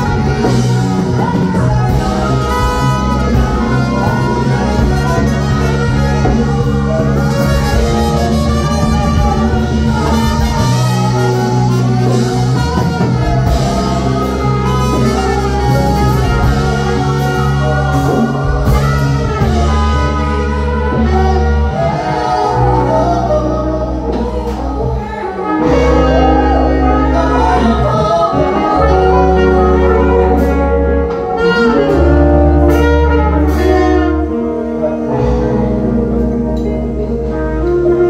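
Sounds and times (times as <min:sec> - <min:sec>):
jazz band playing: 0:00.0 - 0:38.0
vocalists singing: 0:00.0 - 0:38.0.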